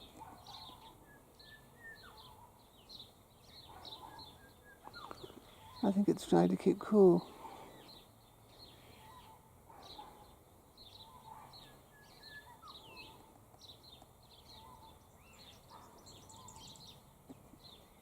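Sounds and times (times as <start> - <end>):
lower bird calls: 0.0 - 6.0, 7.2 - 17.0
birds chirping and twittering: 0.0 - 18.0.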